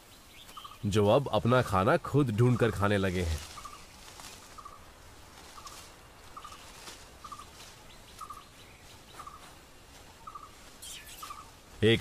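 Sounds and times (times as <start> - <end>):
forest background: 0.0 - 12.0.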